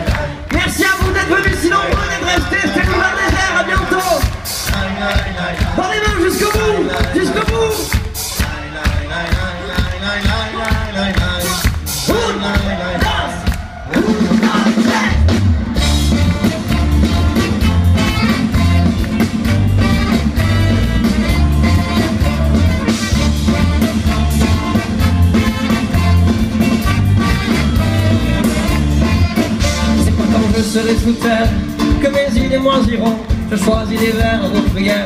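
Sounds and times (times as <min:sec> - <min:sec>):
live band playing instrumental: 0:00.0 - 0:35.0.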